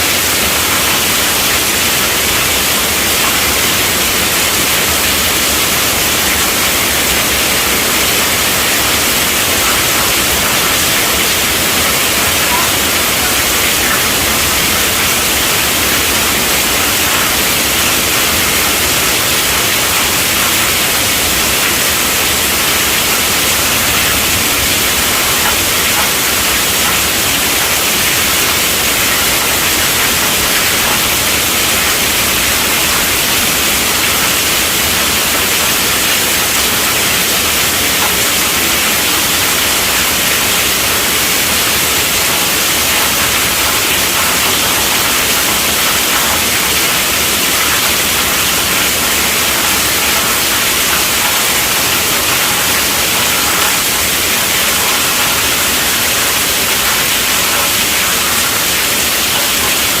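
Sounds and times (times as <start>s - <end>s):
heavy rain hissing: 0.0s - 60.0s.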